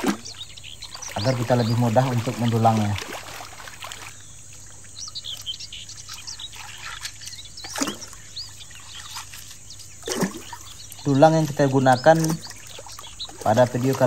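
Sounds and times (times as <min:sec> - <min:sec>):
water splash: 0:00.0 - 0:04.3, 0:06.1 - 0:14.0
small birds chirping: 0:00.0 - 0:14.0
water sloshing in a pan: 0:00.0 - 0:14.0.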